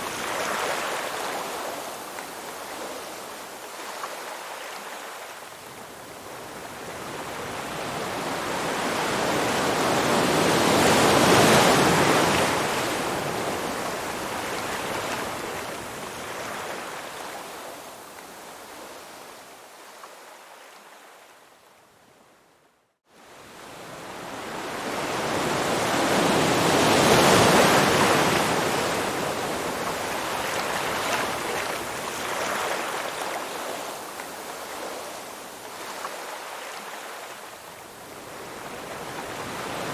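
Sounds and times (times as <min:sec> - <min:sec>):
rushing water: 0:00.0 - 0:21.2, 0:24.3 - 0:39.9.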